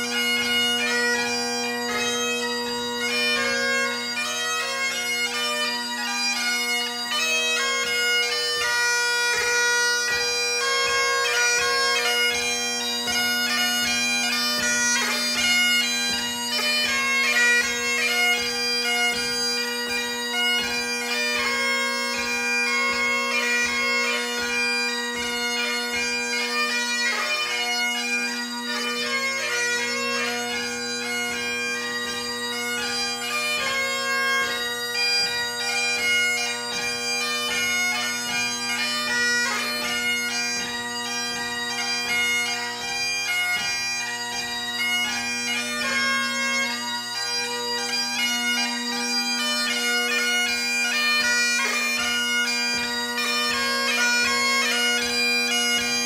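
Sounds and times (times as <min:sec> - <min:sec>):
bagpipe drones and melody: 0:00.0 - 0:56.0.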